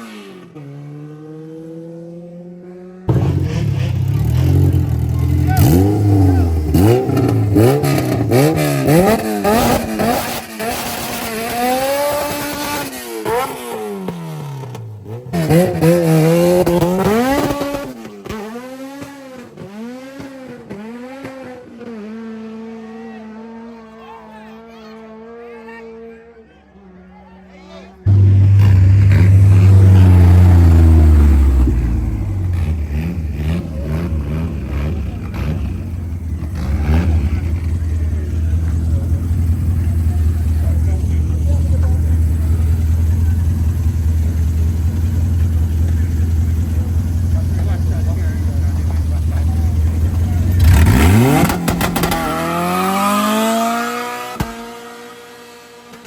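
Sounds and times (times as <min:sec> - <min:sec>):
car engine revving: 0:00.0 - 0:22.8, 0:28.0 - 0:56.0.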